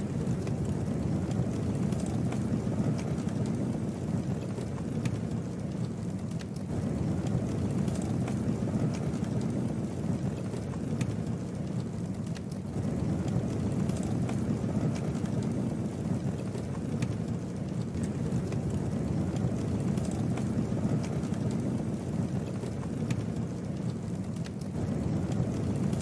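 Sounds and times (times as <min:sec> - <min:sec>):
burning wood crackling and popping: 0:00.0 - 0:26.0
campfire flames rushing: 0:00.0 - 0:26.0.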